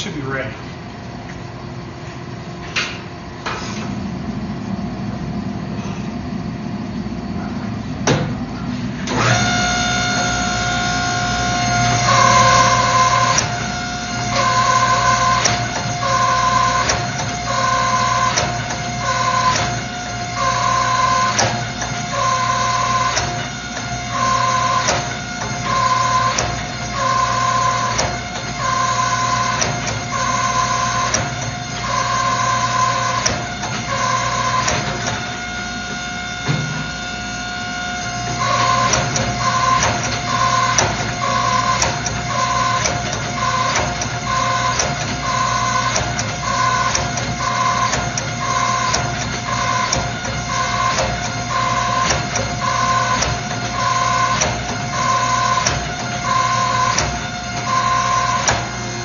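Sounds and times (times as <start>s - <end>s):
shop machinery humming: 0.0s - 59.0s.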